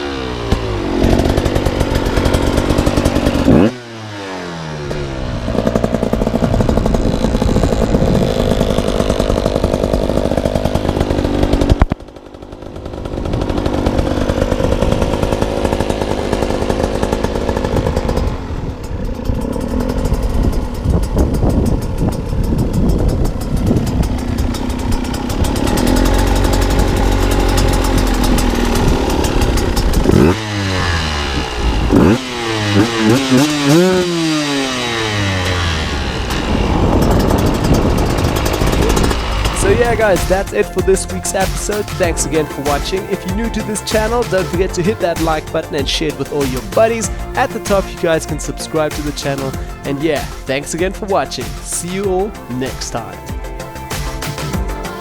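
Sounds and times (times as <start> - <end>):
engine throttle blips: 0.0 - 54.8
two-stroke motorcycle engine revving: 0.0 - 55.0.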